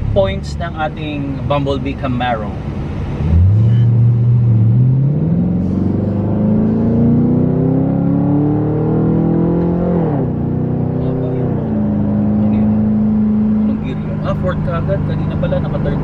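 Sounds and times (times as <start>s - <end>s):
car engine accelerating hard: 2.6s - 16.0s.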